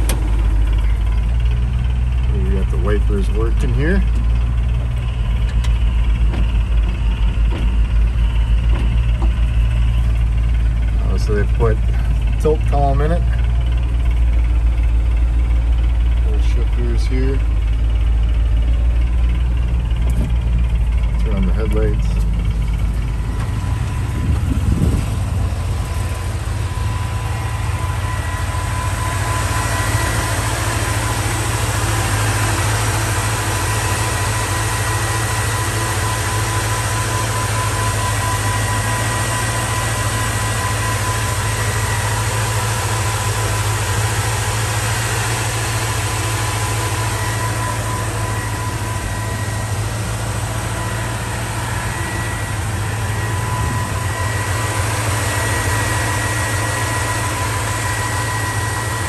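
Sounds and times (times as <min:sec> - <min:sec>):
high whine: 0:00.0 - 0:59.0
pickup engine idling: 0:00.0 - 0:59.0.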